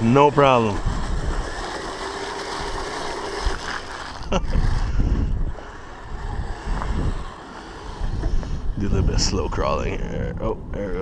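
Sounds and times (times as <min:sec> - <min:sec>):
electric motors whining: 0:00.0 - 0:11.0
wind rumble on microphone: 0:00.0 - 0:11.0.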